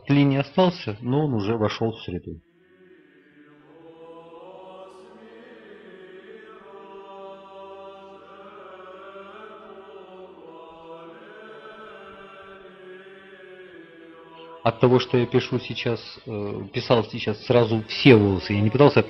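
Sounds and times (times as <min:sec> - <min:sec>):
choral chant music: 0:01.0 - 0:19.0.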